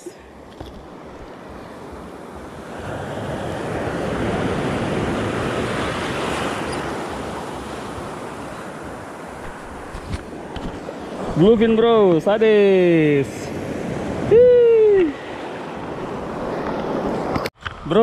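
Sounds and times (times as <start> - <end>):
waves rushing in: 0.0 - 18.0.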